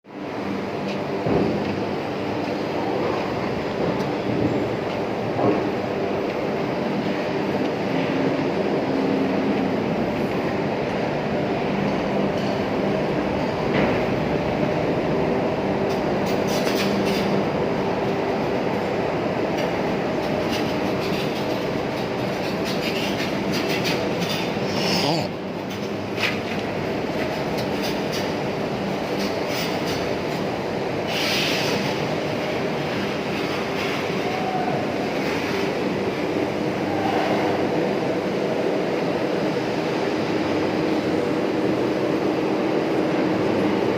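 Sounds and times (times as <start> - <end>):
industrial machinery drone: 0.1 - 43.9.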